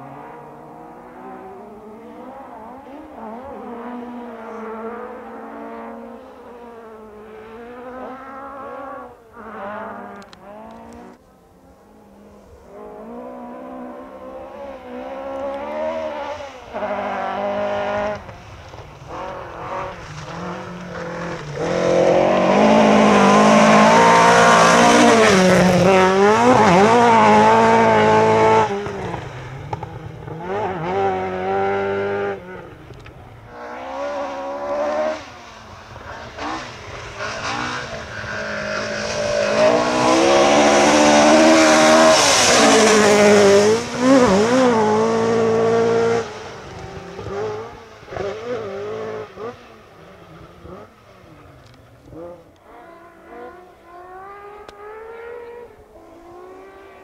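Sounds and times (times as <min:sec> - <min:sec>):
rally car engine at high revs: 0:00.0 - 0:11.2, 0:11.9 - 0:57.0.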